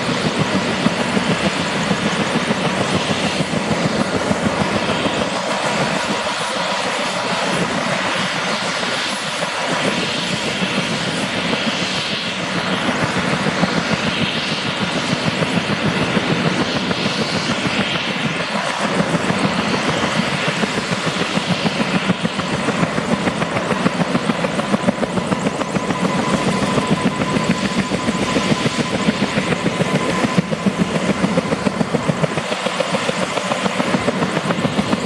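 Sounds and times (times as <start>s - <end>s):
helicopter rotor beating: 0.0s - 35.0s
turbine engine: 0.0s - 35.0s.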